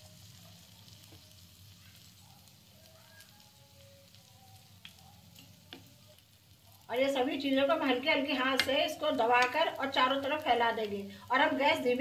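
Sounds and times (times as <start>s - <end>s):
batter sizzling on hot pan: 0.0s - 12.0s.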